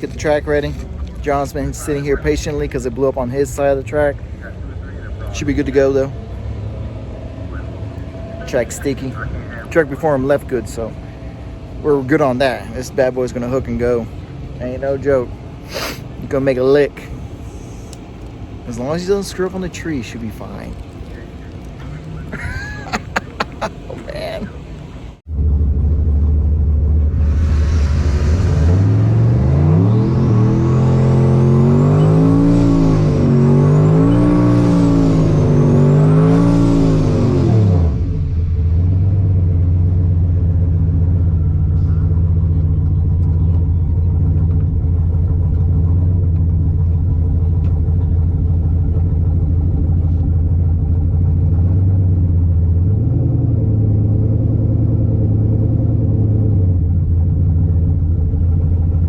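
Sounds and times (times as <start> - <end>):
truck engine revving hard: 0.0 - 16.1, 21.0 - 24.7, 25.3 - 59.0
engine low rumble: 0.0 - 59.0.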